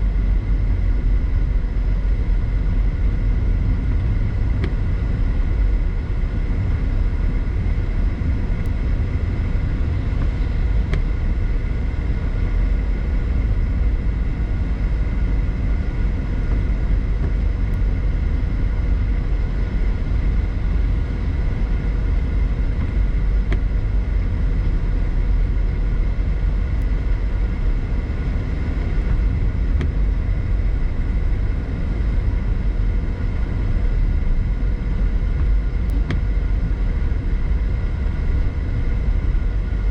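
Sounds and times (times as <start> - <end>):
car road and engine rumble: 0.0 - 39.9
faint steady whine: 0.0 - 39.9.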